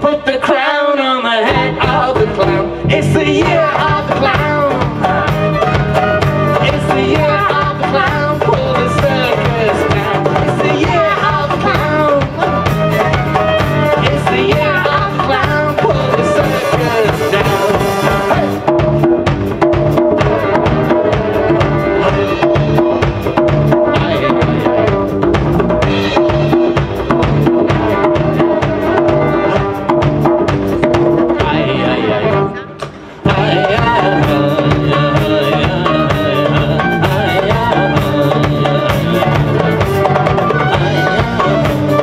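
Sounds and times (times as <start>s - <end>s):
folk-rock band playing: 0.0s - 42.0s.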